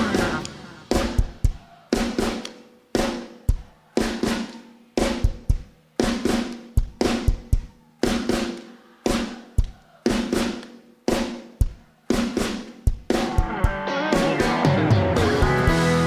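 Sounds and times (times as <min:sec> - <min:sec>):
drum kit groove: 0:00.0 - 0:16.0.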